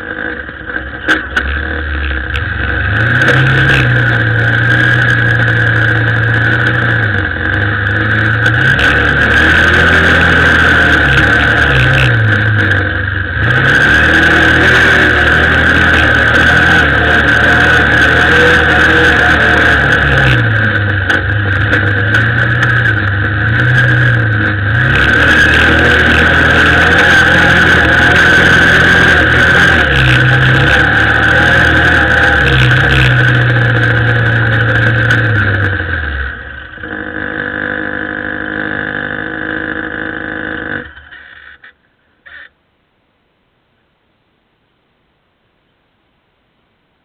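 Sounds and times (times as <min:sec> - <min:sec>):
vehicle motor running: 0:00.0 - 0:42.5
steady high whine: 0:00.0 - 0:47.0.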